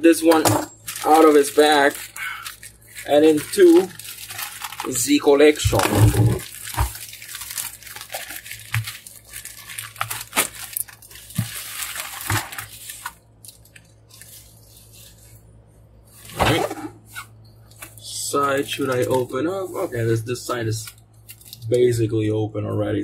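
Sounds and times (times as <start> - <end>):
plastic mailer bag crinkling and tearing: 0.2 - 15.4, 17.8 - 21.6.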